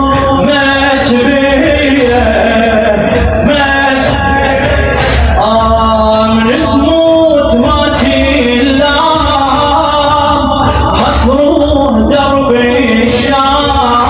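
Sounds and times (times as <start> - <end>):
man singing mourning elegy: 0.0 - 14.0.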